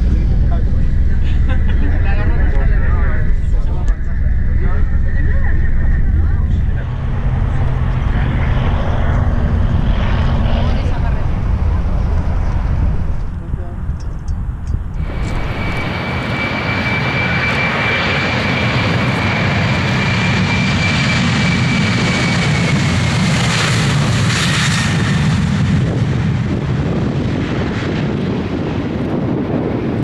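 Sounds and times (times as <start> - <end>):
airliner engines roaring: 0.0 - 30.0
high engine whine: 0.0 - 30.0
low rumble: 0.0 - 30.0.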